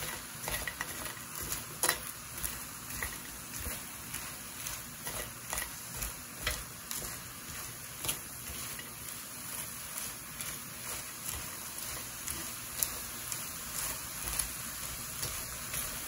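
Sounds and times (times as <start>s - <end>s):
chopsticks scraping a pan: 0.0s - 16.0s
food sizzling in a pan: 0.0s - 16.0s.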